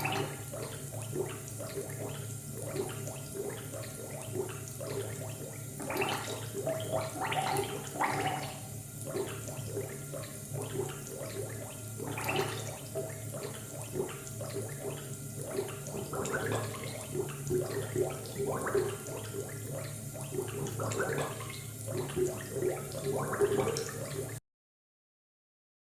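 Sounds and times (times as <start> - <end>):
liquid bubbling: 0.0 - 24.4
low electrical hum: 0.0 - 24.4.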